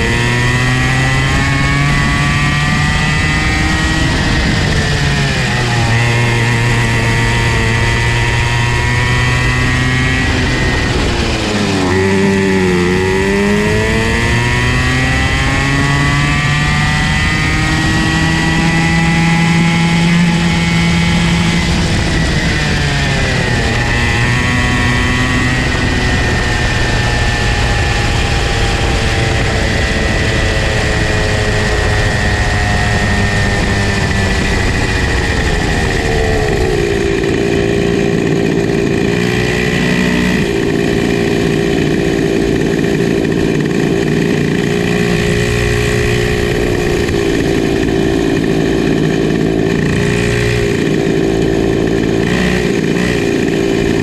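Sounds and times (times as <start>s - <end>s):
two-stroke kart engine running: 0.0s - 54.0s.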